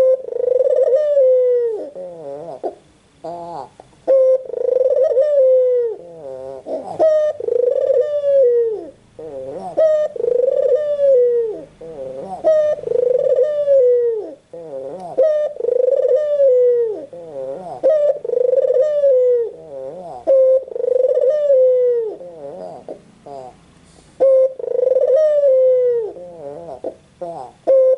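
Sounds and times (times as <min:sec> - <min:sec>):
dove cooing: 0:00.0 - 0:27.9.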